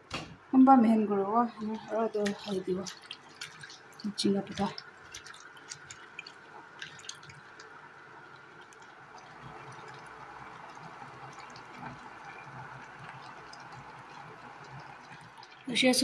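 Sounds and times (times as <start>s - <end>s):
pot of water hissing: 1.5s - 16.0s
water dripping and splashing: 1.5s - 16.0s.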